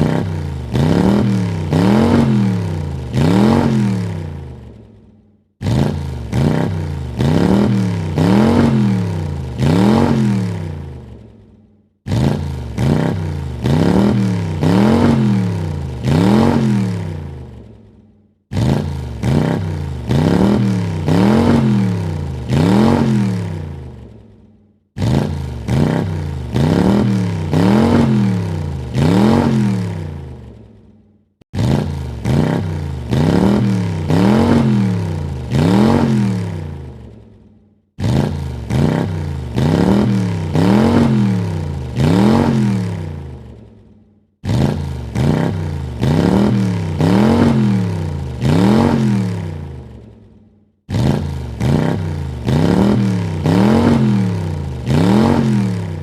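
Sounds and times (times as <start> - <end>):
car engine revving: 0.0 - 4.8, 5.6 - 11.4, 12.0 - 17.7, 18.5 - 24.4, 25.0 - 30.7, 31.5 - 37.2, 38.0 - 43.7, 44.4 - 50.1, 50.9 - 56.0.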